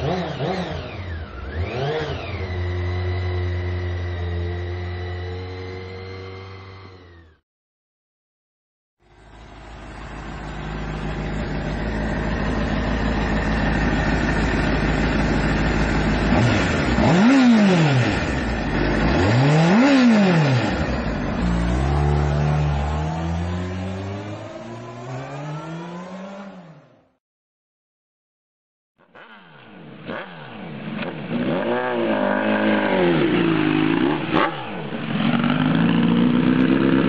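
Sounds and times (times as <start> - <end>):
motorcycle engine revving: 0.0 - 7.4, 9.5 - 27.2, 29.0 - 37.0.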